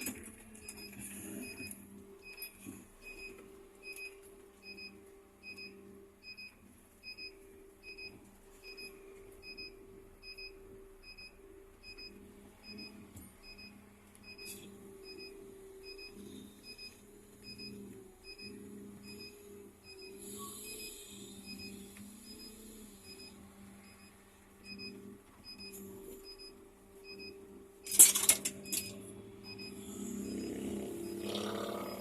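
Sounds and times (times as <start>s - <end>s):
bus warning beeper: 0.0s - 28.0s, 28.6s - 32.0s.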